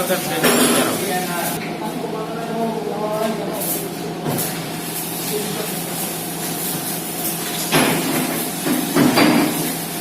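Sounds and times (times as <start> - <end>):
welding equipment hissing: 0.0 - 1.6, 3.2 - 10.0.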